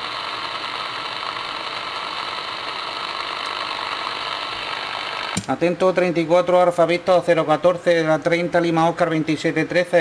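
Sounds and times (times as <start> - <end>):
radio static hiss: 0.0 - 9.1.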